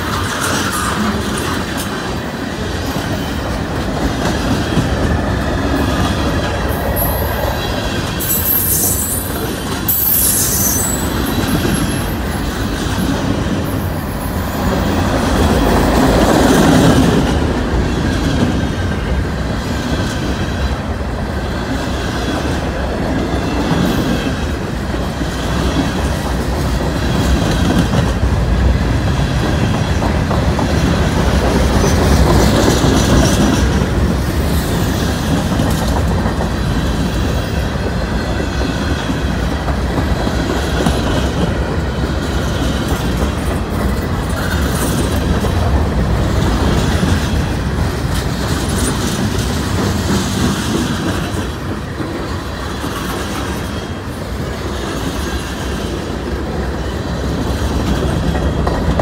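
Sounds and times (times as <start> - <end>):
clickety-clack over rail joints: 0.0 - 59.0
freight train wheels rumbling: 0.0 - 59.0.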